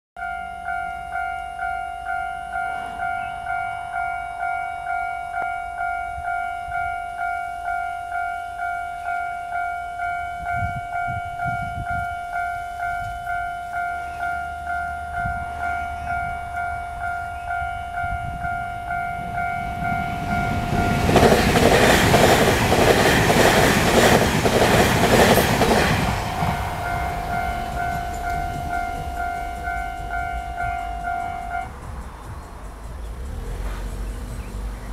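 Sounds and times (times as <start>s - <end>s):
level crossing warning bell: 0.2s - 32.0s
electric train passing: 0.2s - 34.9s.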